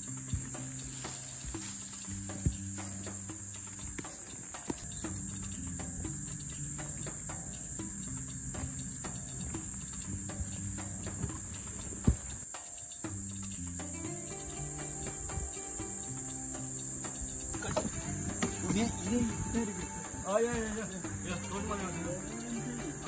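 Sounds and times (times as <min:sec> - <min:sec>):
cicadas droning: 0:00.0 - 0:23.0
music of held low notes: 0:00.0 - 0:23.0.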